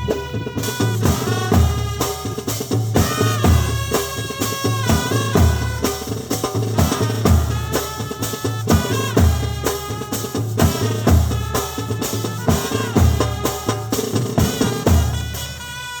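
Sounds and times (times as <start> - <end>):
bass drum and snare beat: 0.0 - 16.0
brass band playing: 0.0 - 16.0.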